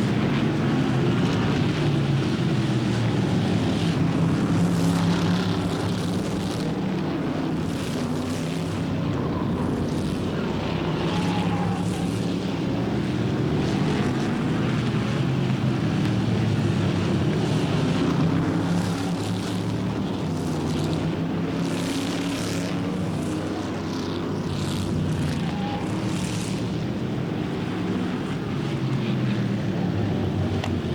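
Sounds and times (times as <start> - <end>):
stock car engines racing: 0.0 - 30.9.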